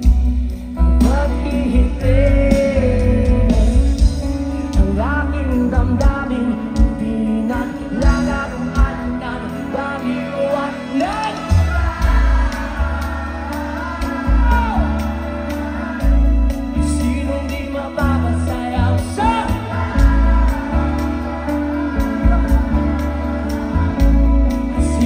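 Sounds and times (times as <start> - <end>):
live rock band playing: 0.0 - 25.0
man singing: 0.0 - 25.0.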